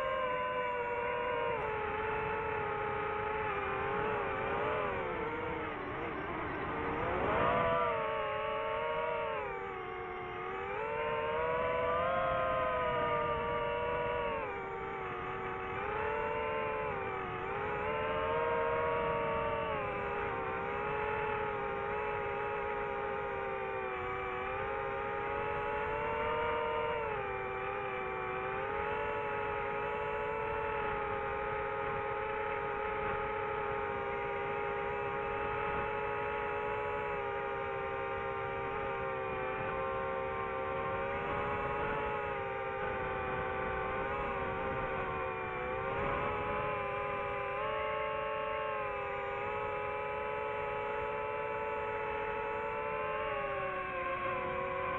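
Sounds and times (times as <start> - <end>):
drone propeller motors whining: 0.0 - 54.9.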